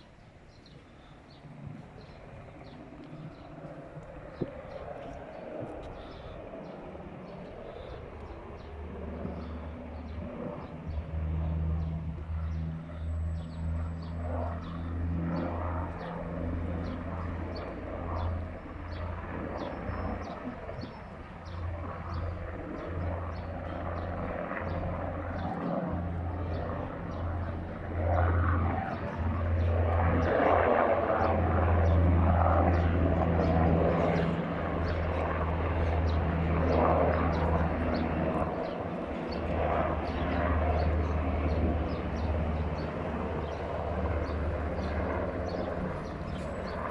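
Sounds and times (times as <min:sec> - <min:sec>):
helicopter rotors and engines droning: 0:00.0 - 0:46.9.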